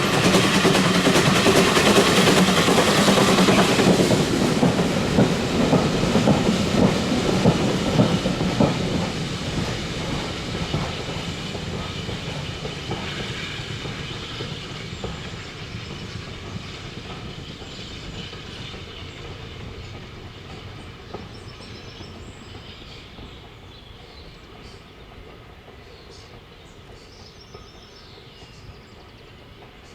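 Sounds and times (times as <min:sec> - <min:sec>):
steam train running: 0:00.0 - 0:29.9
train wheels knocking on rail joints: 0:00.0 - 0:29.9.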